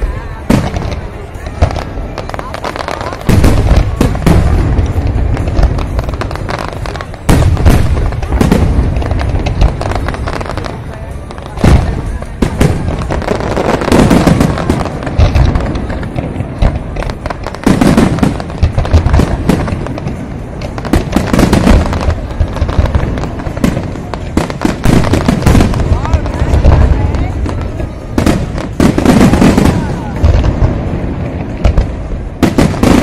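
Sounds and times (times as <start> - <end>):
fireworks bangs and booms: 0.0 - 33.0.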